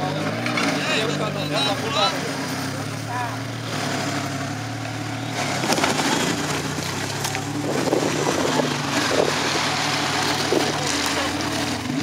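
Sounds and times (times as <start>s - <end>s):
diesel engine running under load: 0.0s - 12.0s
rough background noise: 0.0s - 12.0s.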